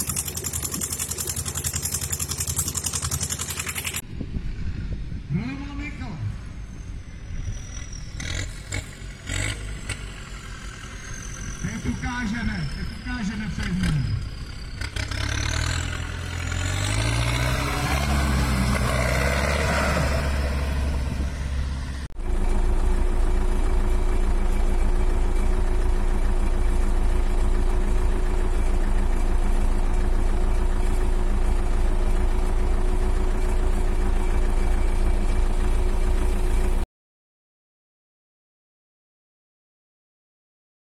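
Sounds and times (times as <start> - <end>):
tractor diesel engine running: 0.0 - 36.8.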